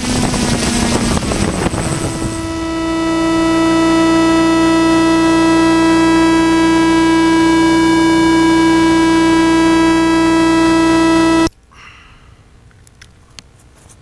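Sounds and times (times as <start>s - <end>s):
loud steady buzzing tone: 0.0s - 11.5s.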